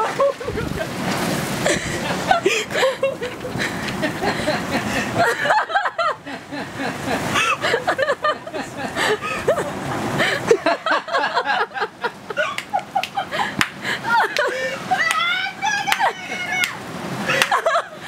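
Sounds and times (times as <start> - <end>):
heavy rain pouring: 0.0 - 18.0
people shouting and laughing: 1.7 - 18.0.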